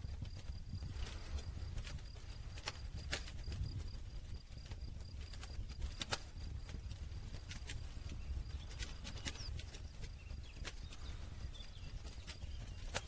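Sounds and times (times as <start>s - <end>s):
campfire crackling and popping: 0.0s - 13.0s
low rush of flames: 0.0s - 13.0s.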